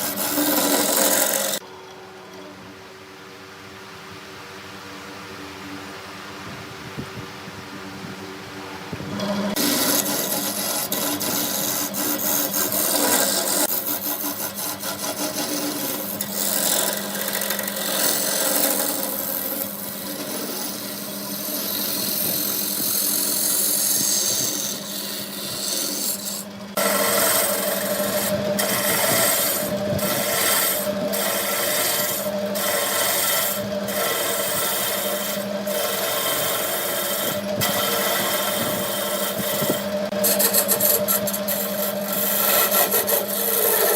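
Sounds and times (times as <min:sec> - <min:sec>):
tool scraping spinning wood: 0:00.0 - 0:01.6, 0:09.0 - 0:43.9
wood lathe motor hum: 0:00.0 - 0:01.6, 0:09.1 - 0:43.9.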